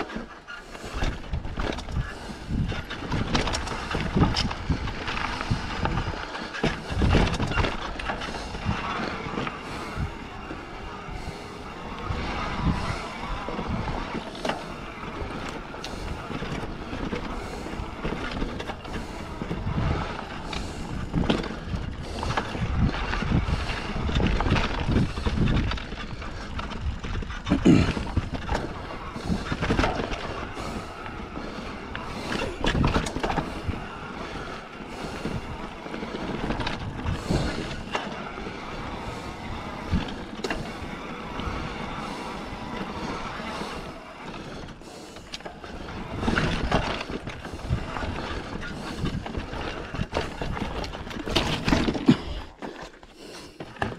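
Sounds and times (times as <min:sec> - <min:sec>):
bike rattling and knocking: 0:00.0 - 0:53.9
bike tyres on dirt: 0:00.0 - 0:53.9.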